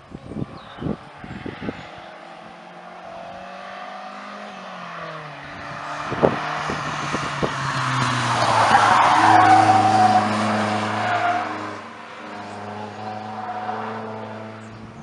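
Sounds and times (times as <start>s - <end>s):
car engine revving: 1.0s - 14.8s.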